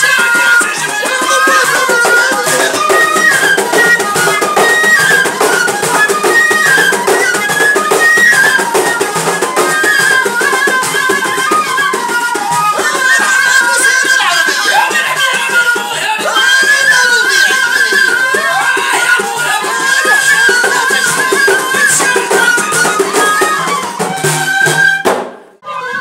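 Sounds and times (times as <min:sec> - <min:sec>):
frame drums beating: 0:00.0 - 0:25.5
reed flutes playing melody: 0:00.0 - 0:26.0.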